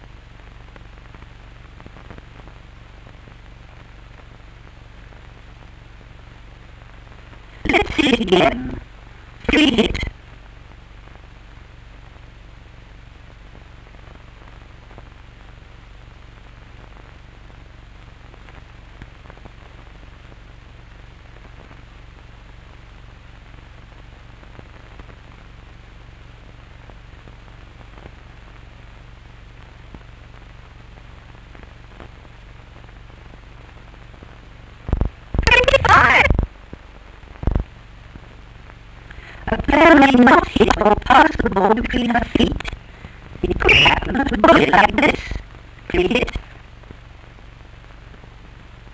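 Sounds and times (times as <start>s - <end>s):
faint crackles and clicks: 0.0s - 48.9s
film soundtrack hiss and hum: 0.0s - 48.9s.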